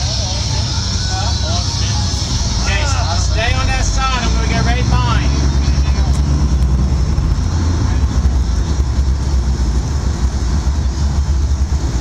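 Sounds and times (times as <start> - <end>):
boat engines rumbling: 0.0 - 12.0
wind: 0.0 - 12.0.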